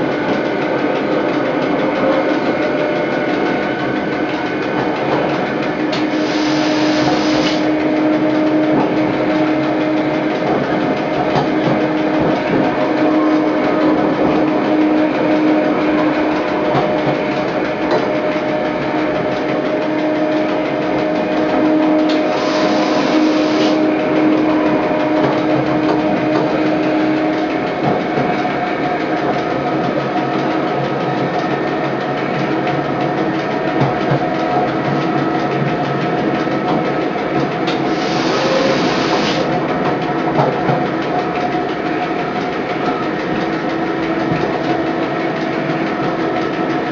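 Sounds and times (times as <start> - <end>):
electric railcar running: 0.0 - 46.9.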